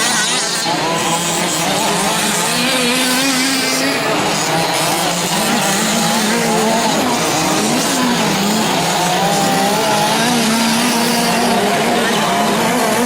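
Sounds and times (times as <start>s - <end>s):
rc truck engines racing: 0.0s - 13.0s.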